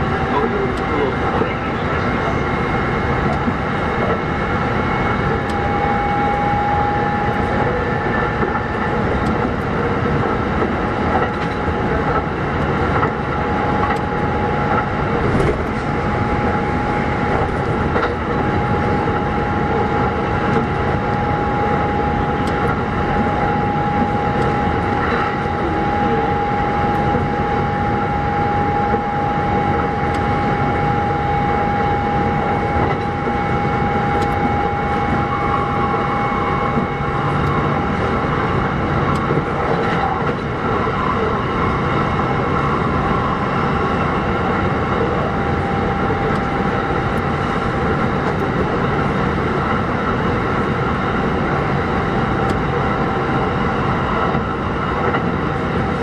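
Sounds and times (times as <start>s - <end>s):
electric train whine: 0.0s - 56.0s
wheels rumbling on track: 0.0s - 56.0s.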